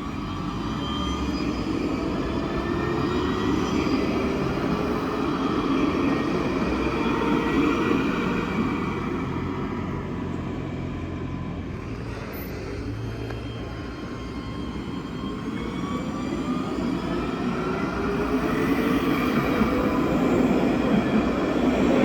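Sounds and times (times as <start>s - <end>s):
tram rumbling on rails: 0.0s - 22.0s.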